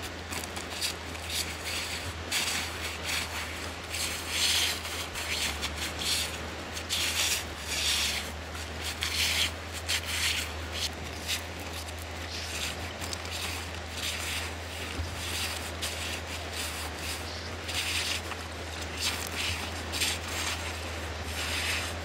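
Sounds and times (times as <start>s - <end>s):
rubbing and scraping on canvas: 0.0s - 22.0s
steady low hum: 0.0s - 22.0s.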